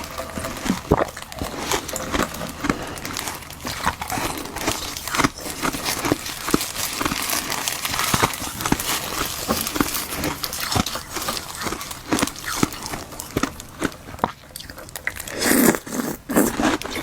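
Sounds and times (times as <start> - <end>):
ice being bitten and crunched: 0.0 - 17.0.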